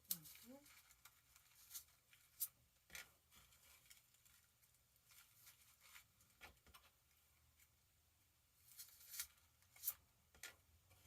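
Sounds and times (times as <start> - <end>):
artificial flower stems rustling: 0.0 - 7.8, 8.5 - 11.0.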